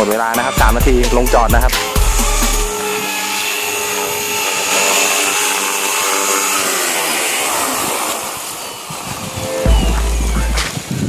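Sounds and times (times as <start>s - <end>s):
rc helicopter motor whine: 0.0s - 11.0s.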